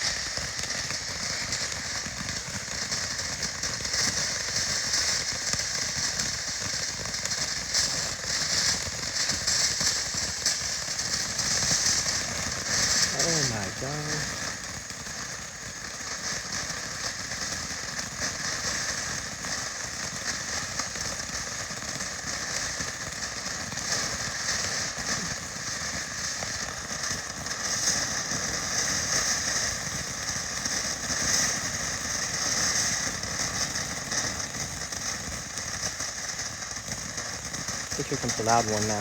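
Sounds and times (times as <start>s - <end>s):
firework sparks hissing and crackling: 0.0s - 39.0s.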